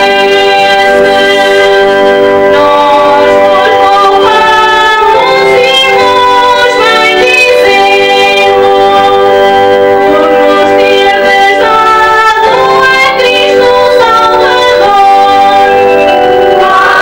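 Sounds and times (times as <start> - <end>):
woman singing slow song: 0.0 - 1.8, 2.6 - 9.3, 10.1 - 17.0
instrumental accompaniment: 0.0 - 17.0.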